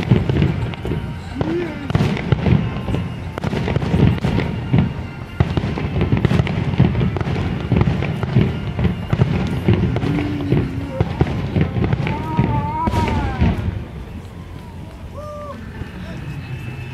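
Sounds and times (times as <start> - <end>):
fireworks booming: 0.0 - 15.4.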